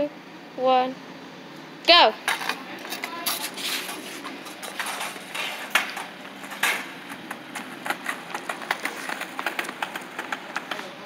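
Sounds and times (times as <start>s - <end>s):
kick scooter rolling on concrete: 2.0s - 11.0s.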